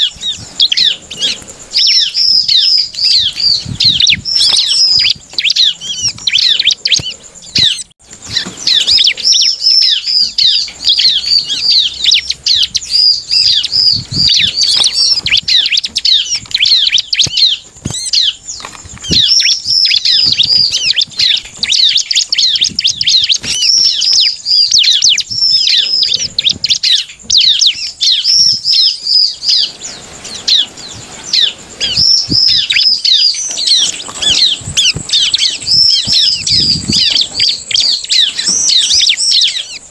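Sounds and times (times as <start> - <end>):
bird chirping song: 0.0 - 39.9
wing flutters: 0.0 - 39.9.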